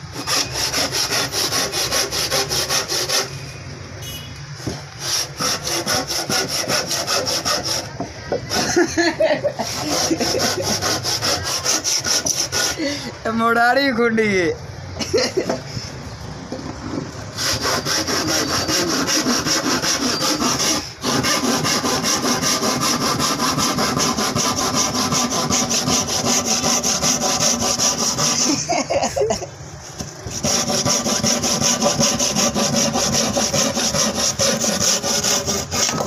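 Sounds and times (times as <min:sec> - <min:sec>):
handsaw cutting wood: 0:00.0 - 0:03.3, 0:05.0 - 0:13.1, 0:17.3 - 0:29.3, 0:29.9 - 0:36.0.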